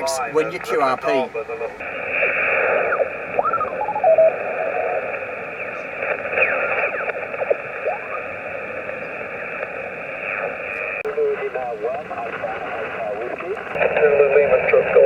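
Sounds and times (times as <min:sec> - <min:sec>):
radio band hiss: 0:00.0 - 0:15.0.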